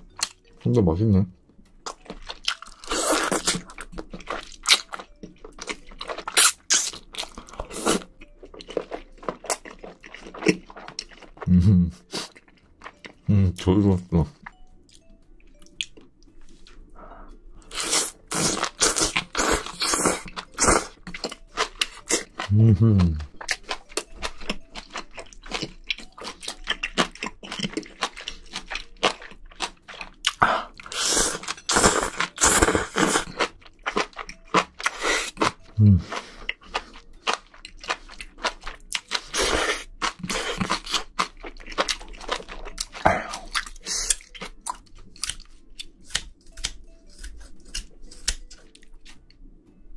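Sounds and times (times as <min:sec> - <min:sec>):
person chewing and slurping noodles: 0:01.8 - 0:13.6, 0:14.3 - 0:49.3.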